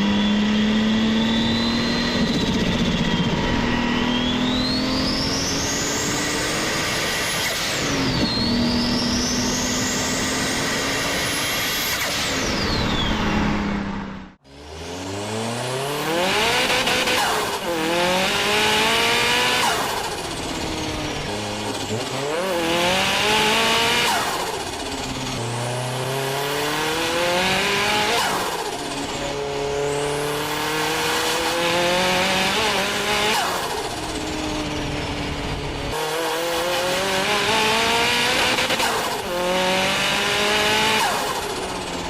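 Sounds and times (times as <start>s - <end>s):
car engine accelerating hard: 0.0s - 42.0s
engine revving: 0.0s - 42.0s.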